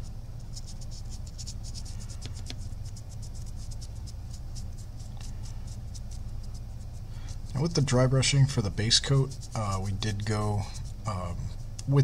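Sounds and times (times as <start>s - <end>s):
paintbrush scratching on plastic: 0.0s - 12.0s
steady low hum: 0.0s - 12.0s.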